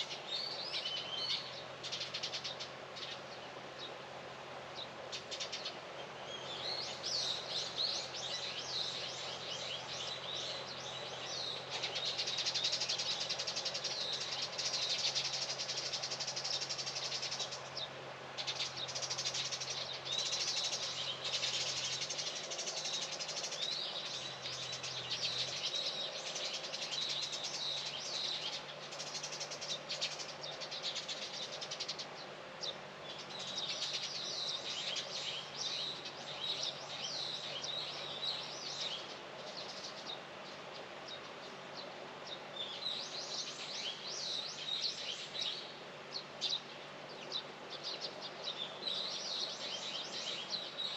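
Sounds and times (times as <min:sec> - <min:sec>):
small birds chirping: 0:00.0 - 0:04.0, 0:04.6 - 0:50.9.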